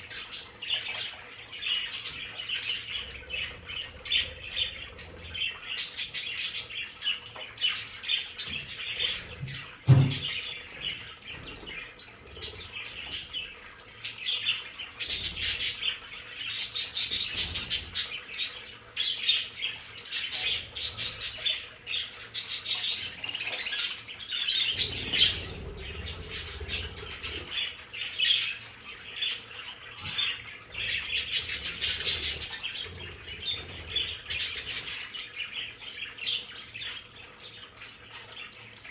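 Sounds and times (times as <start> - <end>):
budgerigars chattering and squawking: 0.0 - 37.3.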